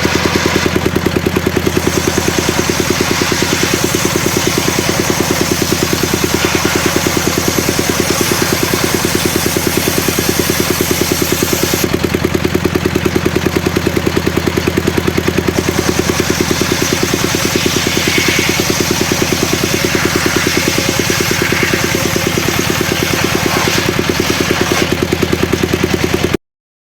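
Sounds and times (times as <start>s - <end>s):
saw engine idling: 0.0s - 26.4s.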